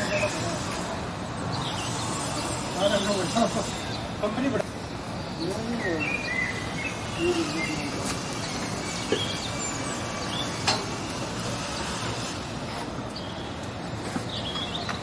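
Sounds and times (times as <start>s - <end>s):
construction site din: 0.0s - 15.0s.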